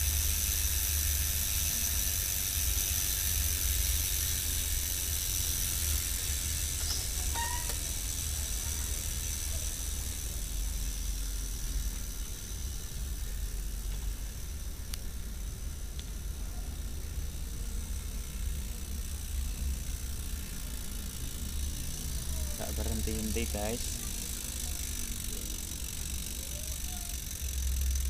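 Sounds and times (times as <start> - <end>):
bicycle freehub buzzing: 0.0 - 28.0.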